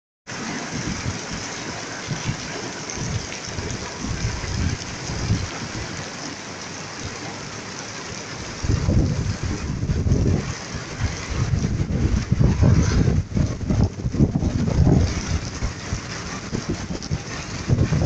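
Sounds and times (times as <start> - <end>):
heavy rain pouring: 0.3 - 18.0
rumbling wind gusts: 0.3 - 18.0.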